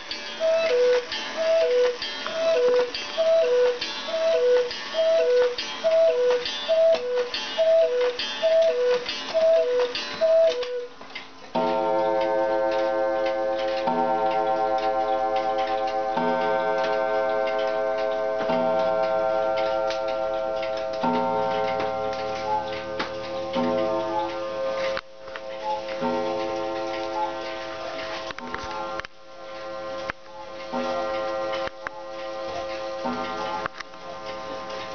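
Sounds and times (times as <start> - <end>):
faint high clock dings: 0.0 - 28.9
clock gong strokes: 0.0 - 34.9
clock ticking: 0.0 - 34.9.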